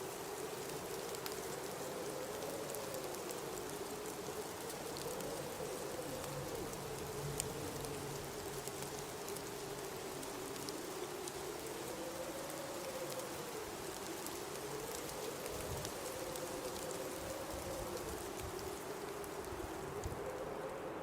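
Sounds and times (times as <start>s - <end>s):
blizzard wind howling: 0.0s - 21.0s
faint ticks: 0.1s - 20.8s.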